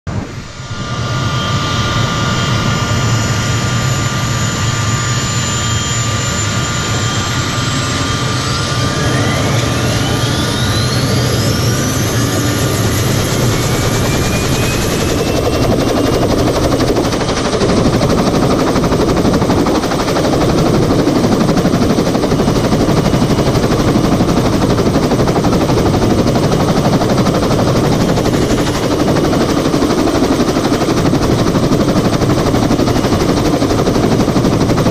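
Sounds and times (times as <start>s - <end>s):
helicopter engines whining: 0.1s - 34.9s
helicopter rotor noise: 0.1s - 34.9s.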